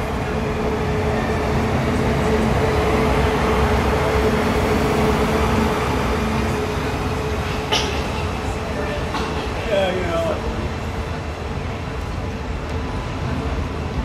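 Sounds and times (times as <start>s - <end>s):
electric locomotive passing: 0.0s - 14.0s
locomotive humming: 0.0s - 14.0s
train rolling noise: 0.0s - 14.0s.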